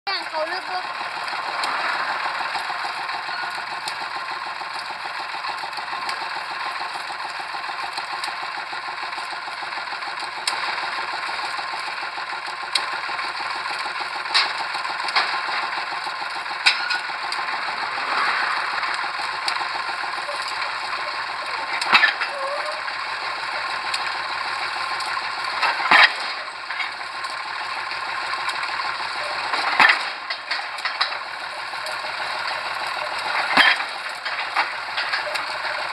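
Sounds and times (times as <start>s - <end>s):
pile-driving rig rattling: 0.1s - 35.9s.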